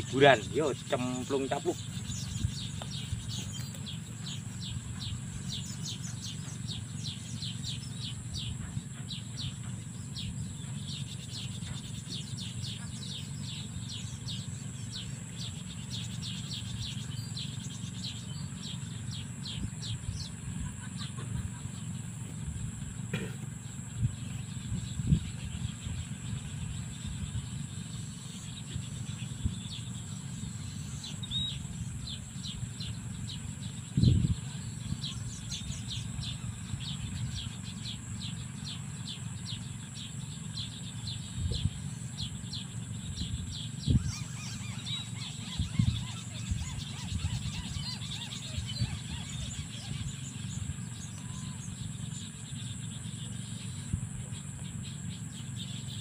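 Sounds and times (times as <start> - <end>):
bird chirping: 0.0 - 56.0
steady low rumble: 0.0 - 56.0.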